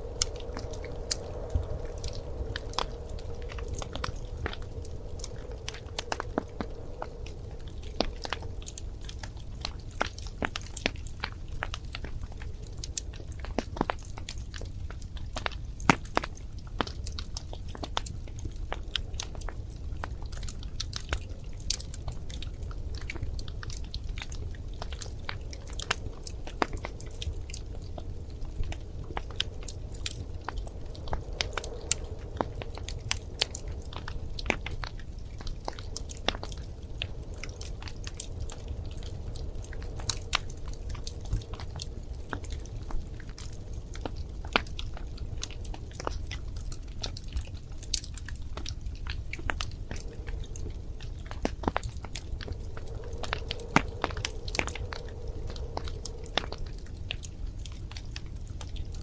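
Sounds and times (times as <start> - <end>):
flames rumbling: 0.0 - 59.0
wood fire popping and snapping: 0.0 - 59.0.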